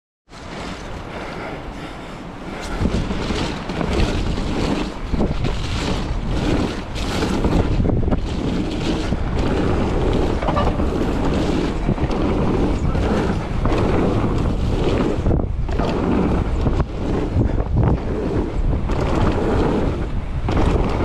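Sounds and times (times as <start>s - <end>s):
bike tyre noise: 0.3s - 21.0s
wind buffeting microphone: 0.3s - 21.0s
bike knocks and rattles: 2.6s - 21.0s.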